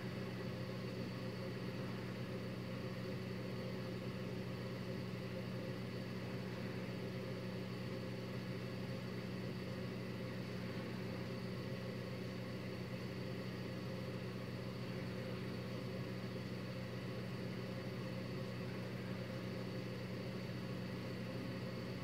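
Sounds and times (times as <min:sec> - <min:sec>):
faint high whine: 0:00.0 - 0:22.0
low background hum: 0:00.0 - 0:22.0.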